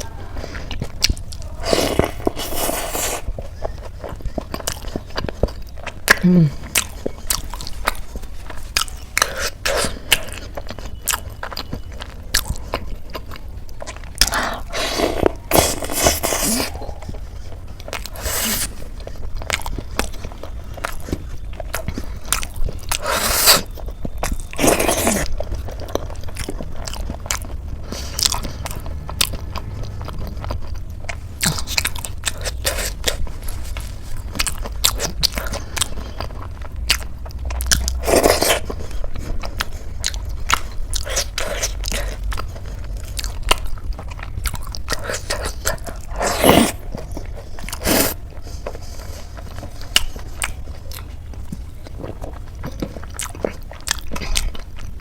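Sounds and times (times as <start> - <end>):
wet chewing clicks: 0.0 - 55.0
crunching bites: 0.7 - 17.2, 17.8 - 55.0.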